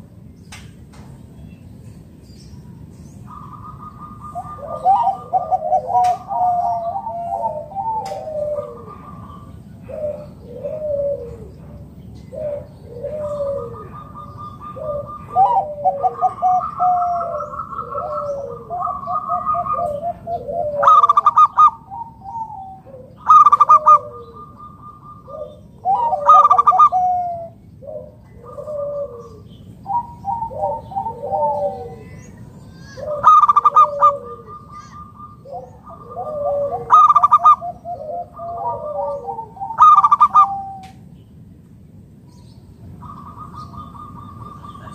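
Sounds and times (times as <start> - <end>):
doves cooing: 3.2 - 41.1, 42.8 - 44.9.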